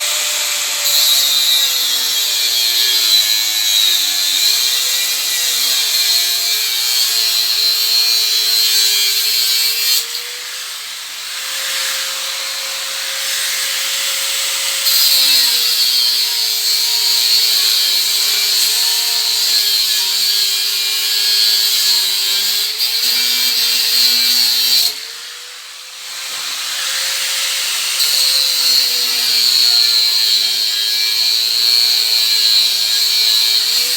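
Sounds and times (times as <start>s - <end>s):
power tool hissing and humming: 0.0s - 33.9s.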